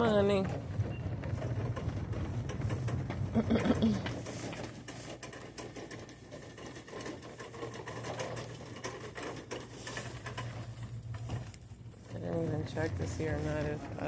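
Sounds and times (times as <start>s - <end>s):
rapid light rattling clatter: 0.0s - 14.0s.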